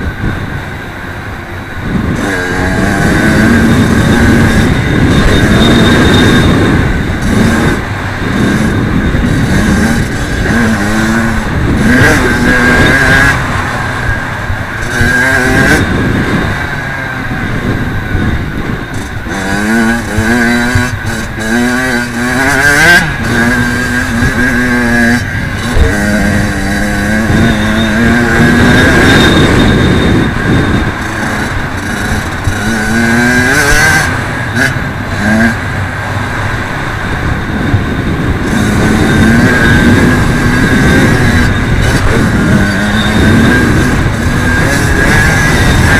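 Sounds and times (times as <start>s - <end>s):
dirt bike engine revving: 1.7s - 45.9s.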